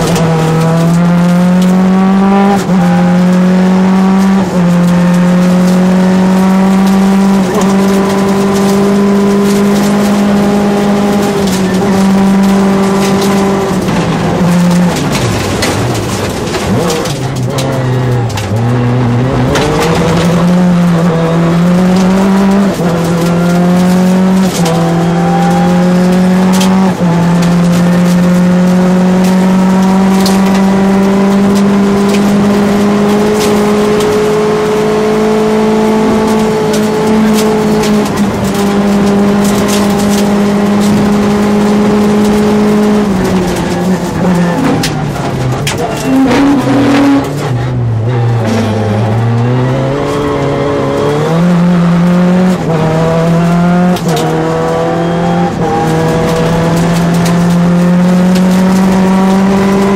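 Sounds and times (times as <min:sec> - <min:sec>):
gravel clattering under car: 0:00.0 - 0:59.9
rally car engine revving: 0:00.0 - 0:59.9.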